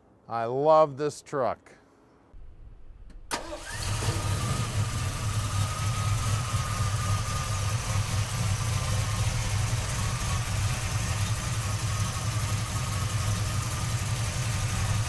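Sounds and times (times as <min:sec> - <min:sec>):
vee eight engine idling: 0:02.4 - 0:15.0.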